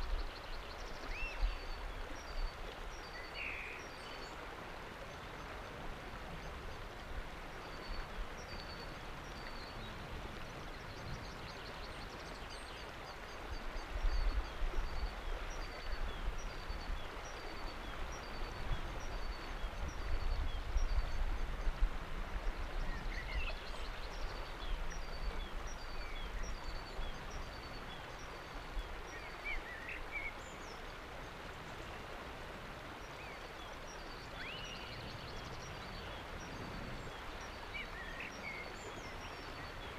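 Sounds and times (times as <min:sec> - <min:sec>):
river water rushing: 0:00.0 - 0:39.9
wind rumble on microphone: 0:04.4 - 0:39.9.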